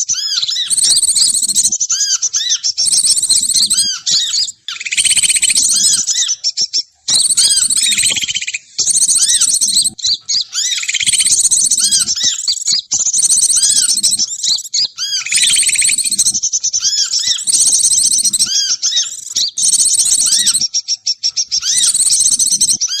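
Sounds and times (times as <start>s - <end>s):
many small birds calling: 0.0s - 23.0s.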